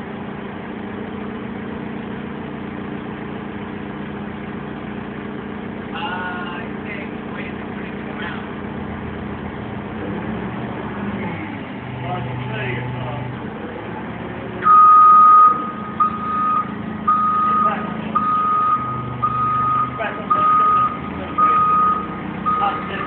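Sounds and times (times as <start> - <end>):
forklift engine running: 0.0 - 23.0.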